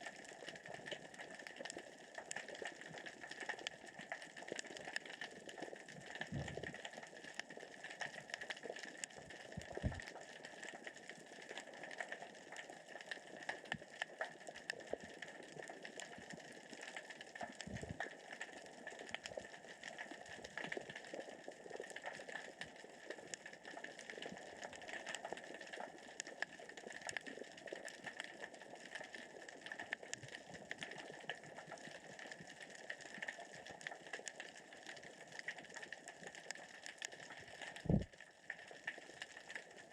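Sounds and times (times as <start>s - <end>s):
underwater crackle of clicks: 0.0s - 39.9s.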